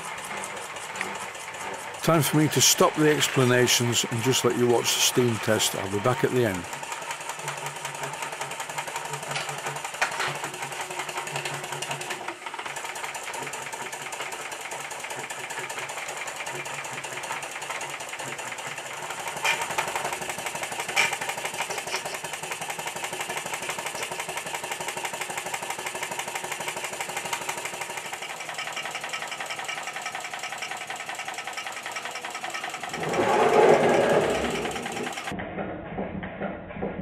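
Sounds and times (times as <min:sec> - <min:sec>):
steam engine mechanical chatter: 0:00.0 - 0:35.4.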